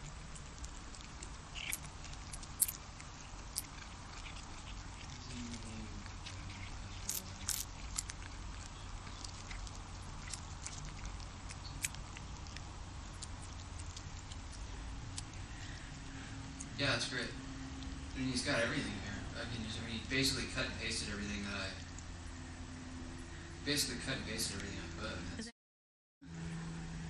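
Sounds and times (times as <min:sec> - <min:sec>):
cat licking and chewing: 0:00.0 - 0:22.3.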